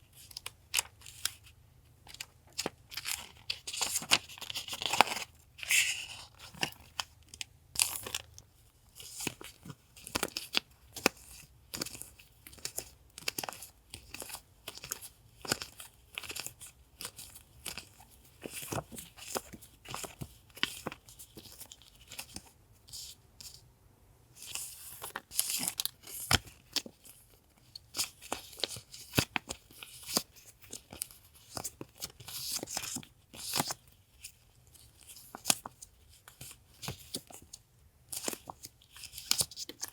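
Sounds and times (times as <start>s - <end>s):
paper rustling and crinkling: 0.1s - 7.1s, 9.0s - 23.6s, 24.4s - 39.9s.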